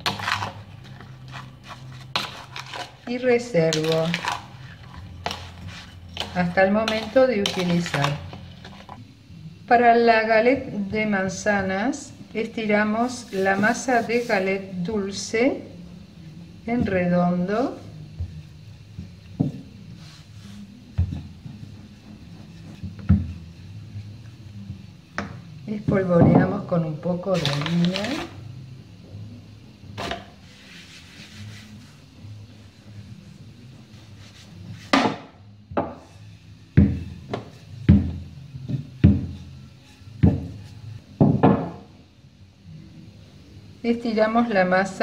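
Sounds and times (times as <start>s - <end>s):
rolling pin rolling dough: 0.0s - 9.0s, 10.3s - 15.1s, 16.7s - 28.2s, 30.0s - 41.8s.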